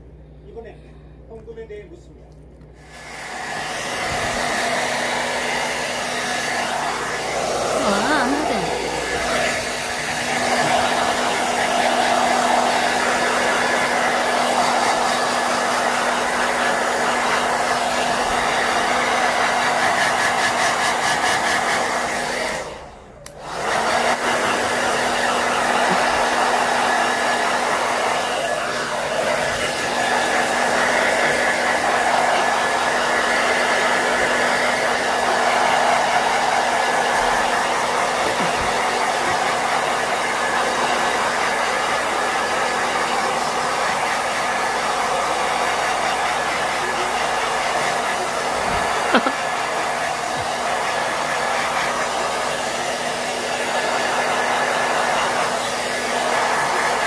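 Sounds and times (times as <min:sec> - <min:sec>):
hair dryer blowing: 0:02.7 - 0:57.0.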